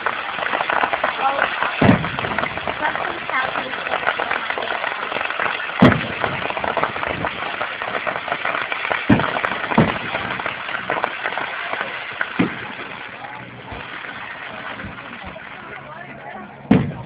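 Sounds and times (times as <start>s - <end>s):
fireworks crackling: 0.0s - 17.0s
fireworks shells booming: 0.0s - 17.0s.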